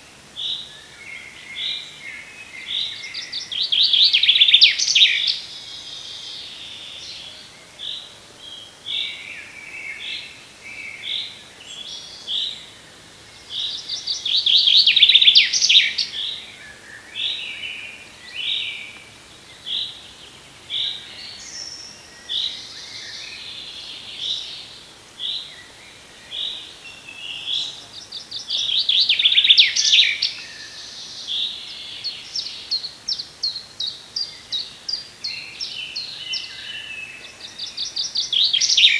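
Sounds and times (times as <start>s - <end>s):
birds singing trilled songs: 0.0s - 38.9s.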